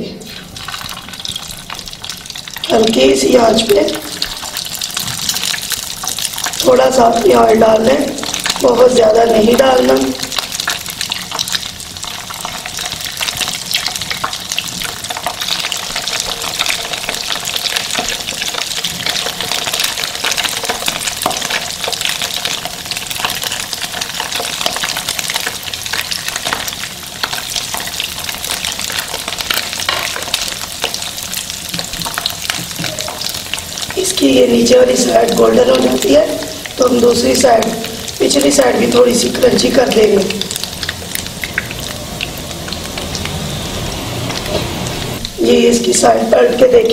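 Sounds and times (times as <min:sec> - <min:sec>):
bread frying in hot oil: 0:00.1 - 0:46.9.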